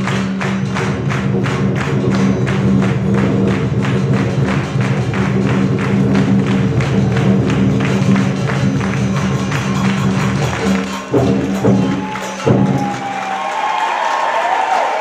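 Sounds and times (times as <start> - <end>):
drum and crash cymbals: 0.0 - 13.6
loud percussion strikes: 0.0 - 13.7
applause: 0.0 - 15.0.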